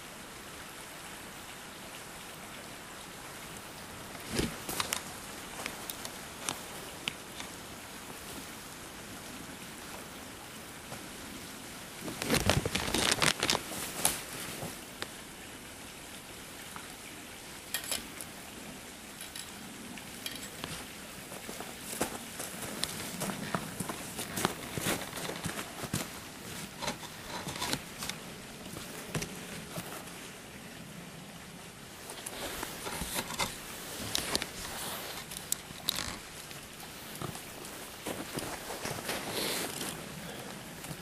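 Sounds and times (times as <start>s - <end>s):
creek running: 0.0s - 41.0s.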